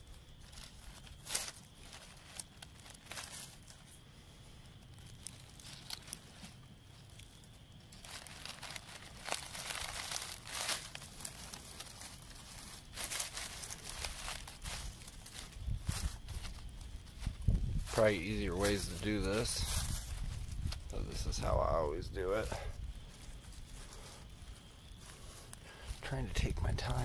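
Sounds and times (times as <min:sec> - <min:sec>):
fingers scraping through dry leaves: 0:00.1 - 0:04.0, 0:04.8 - 0:27.0.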